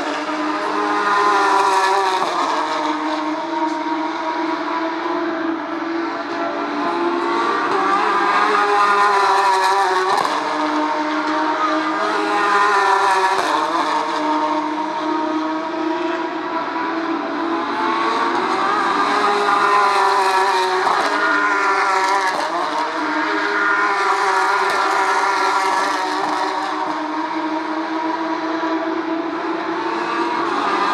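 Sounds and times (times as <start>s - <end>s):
race car engines at full throttle: 0.0s - 30.9s.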